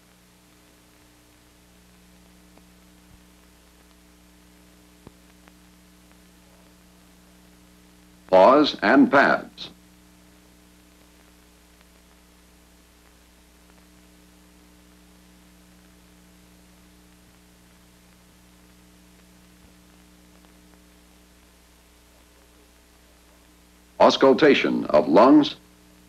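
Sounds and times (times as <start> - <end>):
film soundtrack hum and hiss: 0.0 - 26.0.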